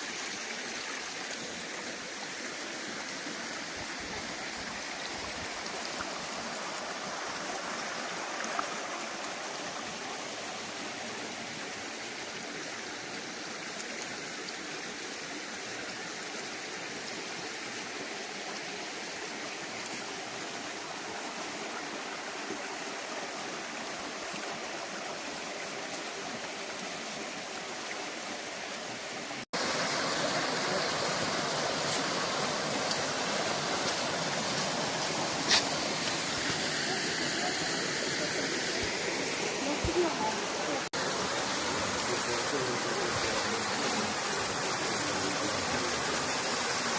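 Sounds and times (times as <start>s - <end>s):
mountain stream rushing: 0.0s - 46.9s.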